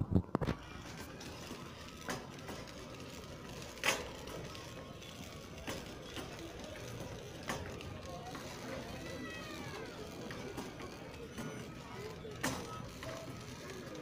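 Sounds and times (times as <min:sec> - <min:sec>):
store background hum: 0:00.0 - 0:14.0
cart clicks and rattles: 0:00.3 - 0:14.0
shopping cart rolling: 0:00.4 - 0:14.0.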